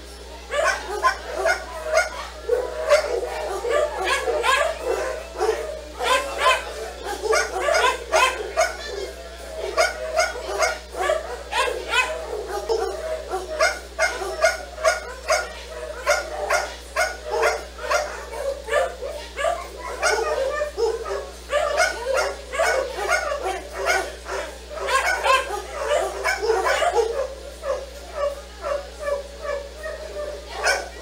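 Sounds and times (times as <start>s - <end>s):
dogs barking and yipping: 0.2s - 31.0s.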